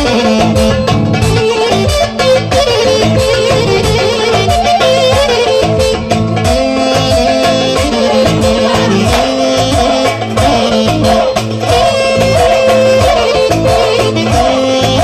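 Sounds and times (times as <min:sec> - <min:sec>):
loud dance music: 0:00.4 - 0:15.0.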